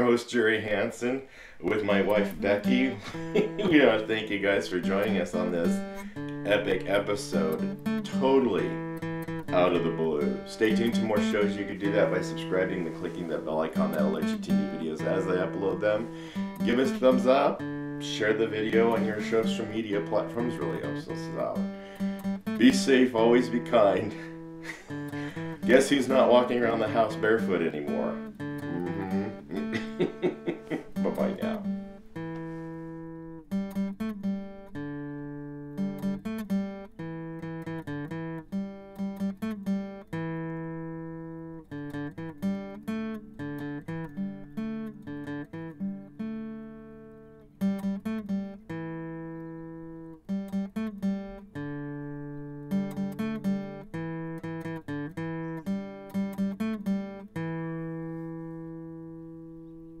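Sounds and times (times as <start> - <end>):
acoustic guitar music: 0.0 - 60.0.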